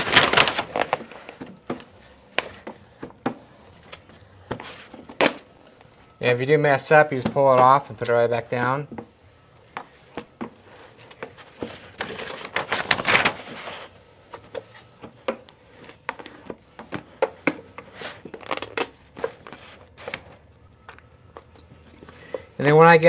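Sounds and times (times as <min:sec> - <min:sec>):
vinyl film rubbing and rustling: 0:00.0 - 0:20.5.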